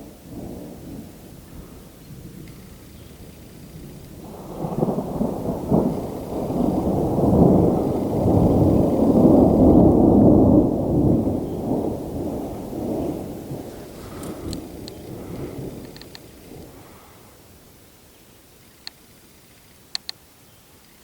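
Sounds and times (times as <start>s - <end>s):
rolling thunder: 0.0s - 17.8s.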